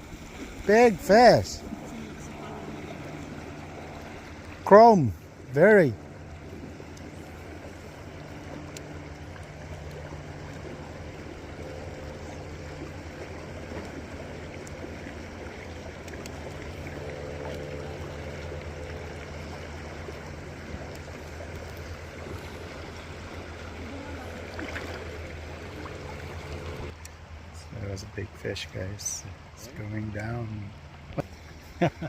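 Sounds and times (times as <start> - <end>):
river current flowing: 0.0 - 32.0.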